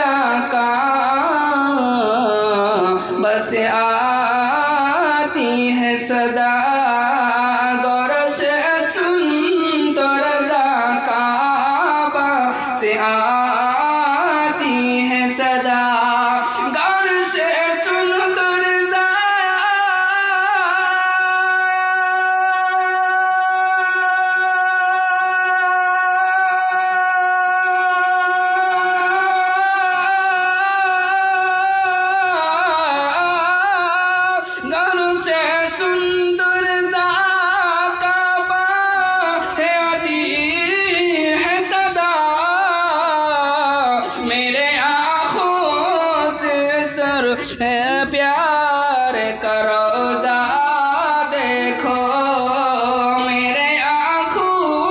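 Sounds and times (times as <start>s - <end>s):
man singing devotional song: 0.0s - 54.9s.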